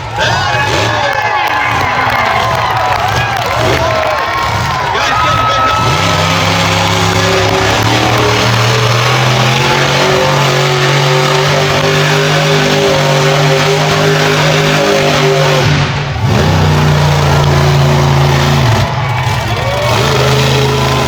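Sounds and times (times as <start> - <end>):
truck engine revving high: 0.0 - 21.0.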